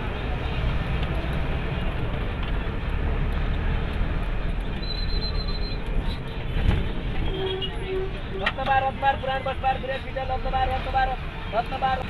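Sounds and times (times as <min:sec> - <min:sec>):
moving vehicle rumble: 0:00.0 - 0:12.0
road and traffic noise: 0:00.0 - 0:12.0.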